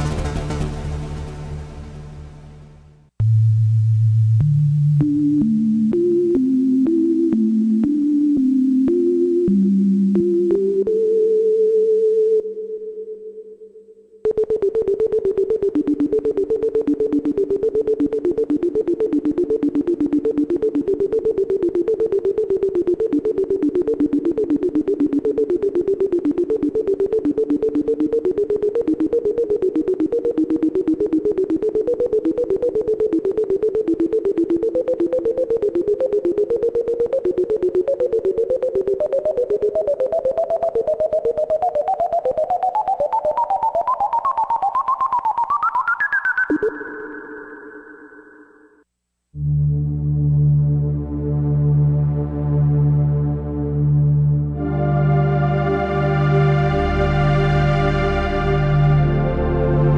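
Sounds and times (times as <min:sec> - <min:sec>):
synthesizer pulsing notes: 0:03.2 - 0:48.8, 0:49.4 - 0:59.9.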